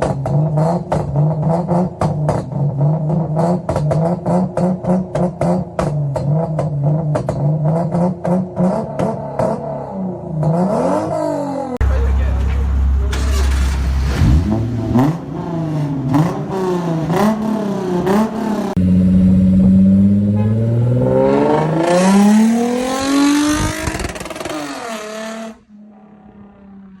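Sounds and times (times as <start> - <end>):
car exhaust revving with pops: 0.0 - 11.2, 14.0 - 25.7.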